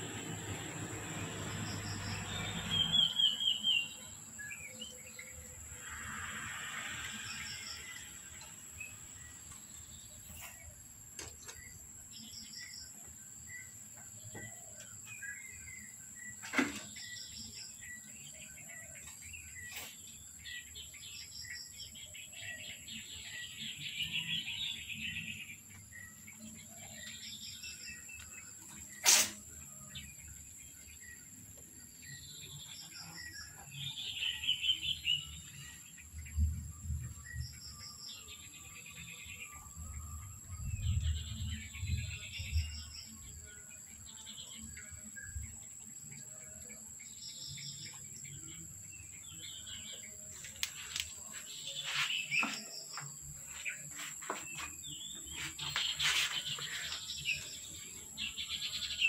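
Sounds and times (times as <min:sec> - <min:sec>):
birds chirping and calling: 0:01.4 - 0:06.0, 0:06.9 - 0:59.0.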